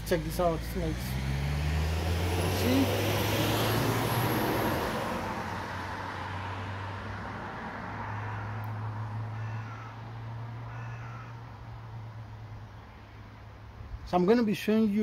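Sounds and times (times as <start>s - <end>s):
car passing: 0.0s - 13.9s.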